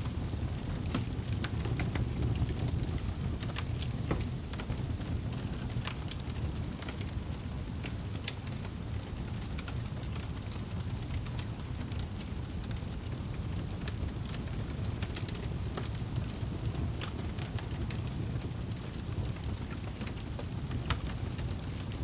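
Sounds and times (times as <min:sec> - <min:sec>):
firewood crackling and popping: 0:00.0 - 0:22.0
wood fire rumbling: 0:00.0 - 0:22.0.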